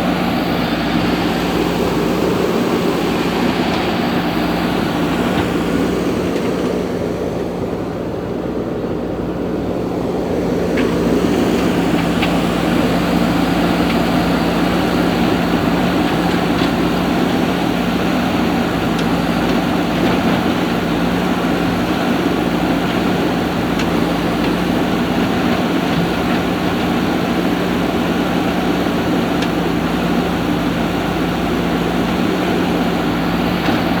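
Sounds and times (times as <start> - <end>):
diesel engine running under load: 0.0 - 34.0.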